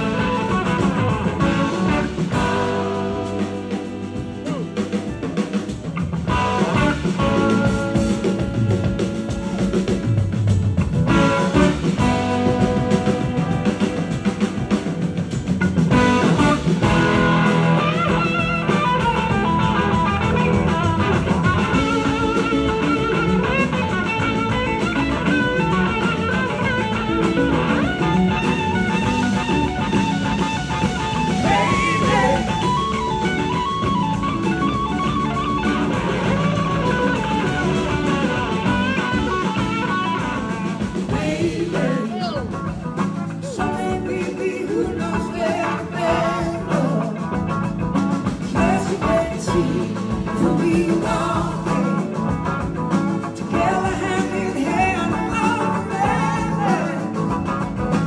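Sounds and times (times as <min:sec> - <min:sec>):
electric guitar lead line: 0:00.0 - 0:58.0
rock band playing: 0:00.0 - 0:58.0.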